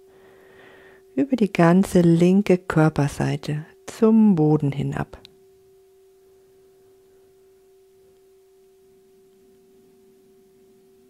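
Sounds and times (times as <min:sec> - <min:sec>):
faint steady pure tone: 0:00.0 - 0:11.0.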